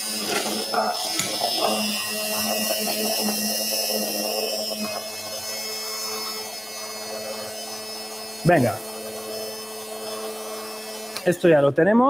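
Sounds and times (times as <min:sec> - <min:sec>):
stick blender whining: 0:00.0 - 0:11.8.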